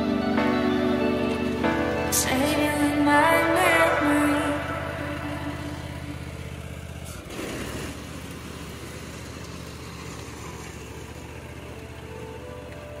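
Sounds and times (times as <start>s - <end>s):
riding mower running: 0.0s - 13.0s.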